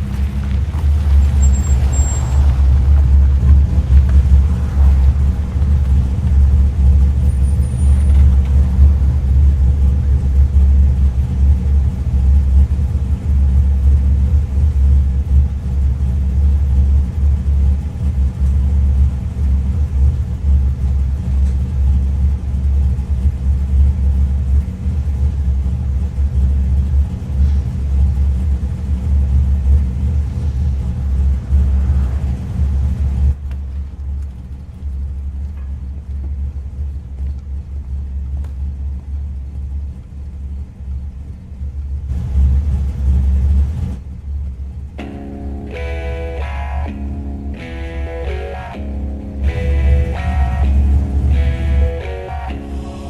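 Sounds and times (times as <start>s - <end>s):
car engine running steadily: 0.0s - 53.0s.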